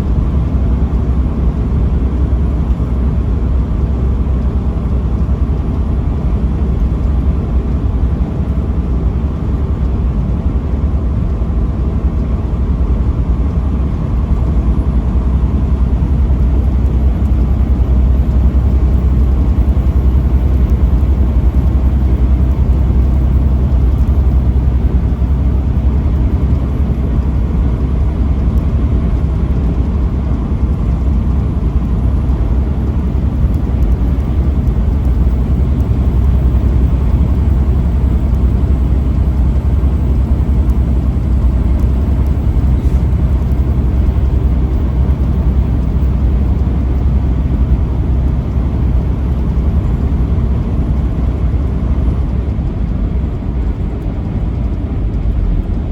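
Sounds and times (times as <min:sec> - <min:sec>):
truck engine and road rumble: 0:00.0 - 0:55.9.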